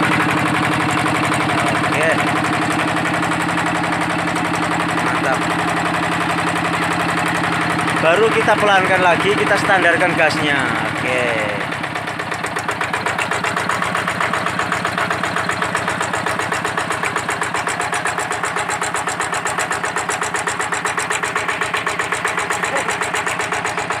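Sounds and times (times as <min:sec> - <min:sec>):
diesel engine puttering: 0:00.0 - 0:24.0.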